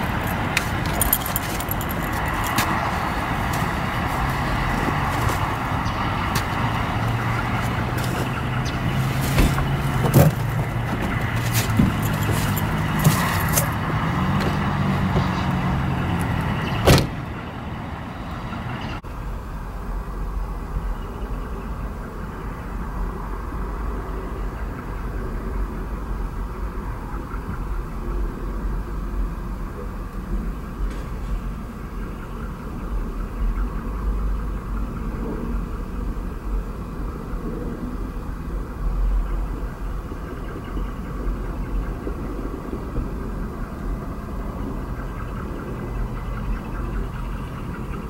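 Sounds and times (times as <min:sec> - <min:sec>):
low vehicle rumble: 0:00.0 - 0:48.0.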